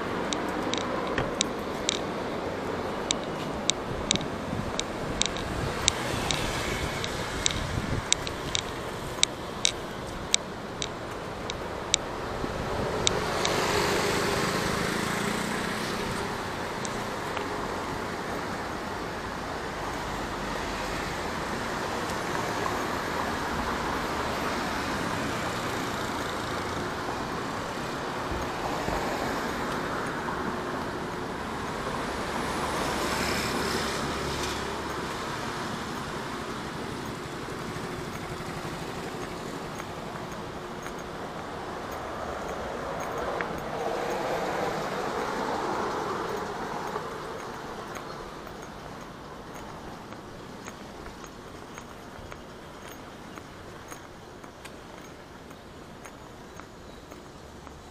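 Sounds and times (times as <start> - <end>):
road traffic: 0.0 - 57.9
vehicles passing: 0.0 - 57.9.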